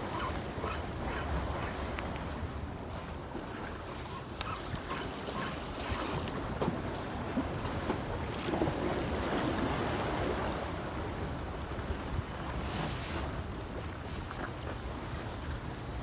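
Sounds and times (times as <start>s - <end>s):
sea surf against breakwater: 0.0s - 16.0s.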